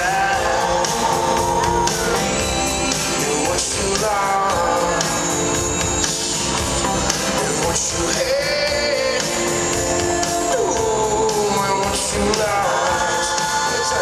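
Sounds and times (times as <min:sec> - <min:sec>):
rock band with singer: 0:00.0 - 0:14.0.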